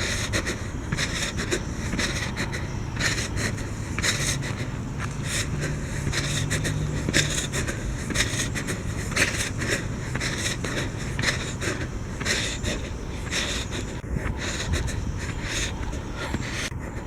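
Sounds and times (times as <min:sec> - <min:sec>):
footsteps scraping on trail: 0:00.0 - 0:17.0.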